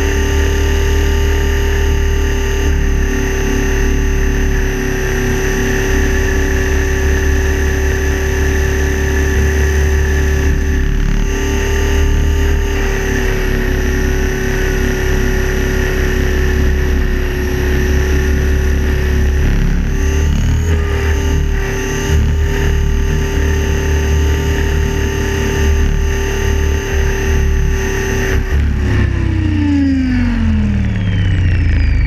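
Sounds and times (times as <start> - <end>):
electric motor whine: 0.0 - 32.0
rotor rumble: 0.0 - 32.0.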